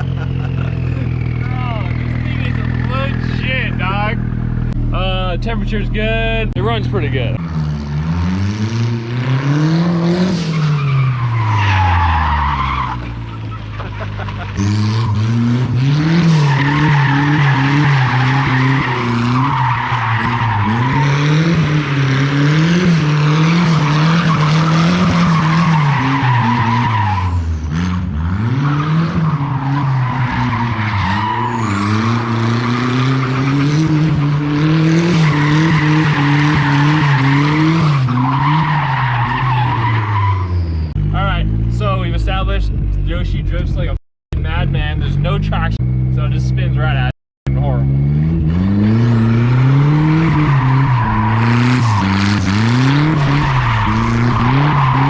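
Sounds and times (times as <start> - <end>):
engine revving: 0.0 - 12.4, 13.9 - 55.0
tires squealing: 0.0 - 43.4, 47.7 - 55.0.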